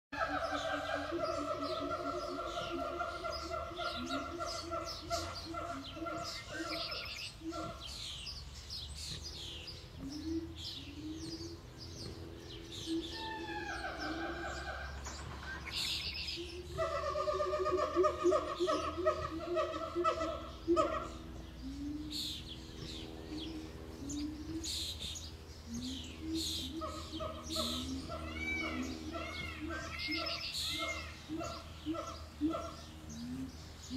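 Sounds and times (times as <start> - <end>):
low pulsing bird call: 0.2 - 33.9
low steady hum: 0.2 - 33.9.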